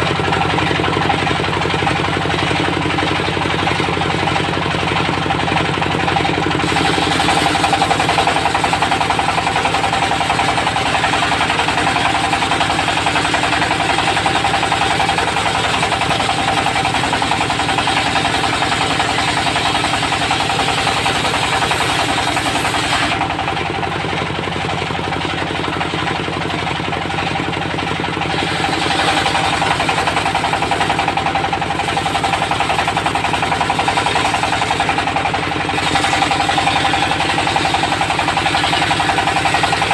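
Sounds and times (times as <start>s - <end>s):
saw blade whining through wood: 0.0s - 24.4s, 28.1s - 39.9s
saw mill engine pulsing: 0.0s - 39.9s.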